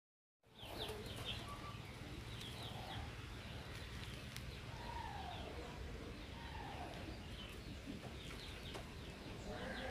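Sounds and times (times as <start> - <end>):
birds chirping: 0.4 - 9.9.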